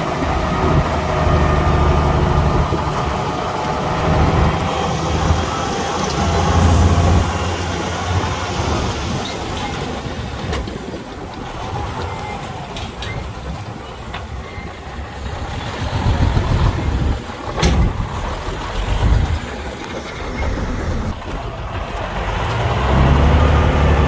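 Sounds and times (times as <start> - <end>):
diesel machinery rumbling: 0.0 - 24.0.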